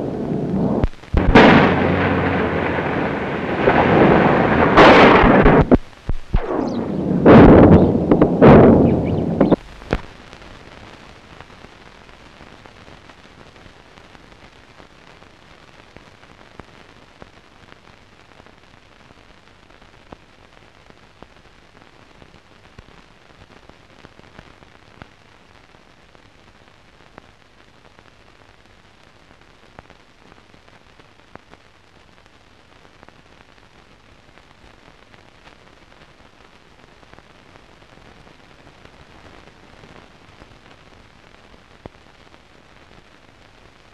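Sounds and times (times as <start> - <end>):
film surface hiss and crackles: 0.0 - 43.9.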